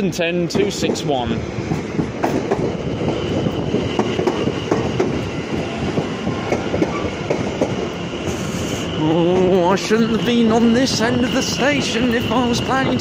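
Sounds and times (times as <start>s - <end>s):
train high whine: 0.0s - 13.0s
train rumble: 0.0s - 13.0s
train wheels clicking over rail joints: 0.4s - 13.0s.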